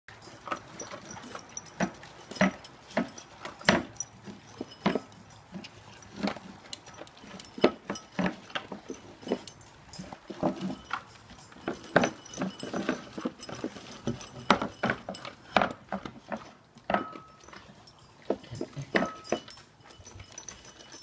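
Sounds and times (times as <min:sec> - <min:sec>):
puppy crunching dry kibble: 0:00.1 - 0:21.0.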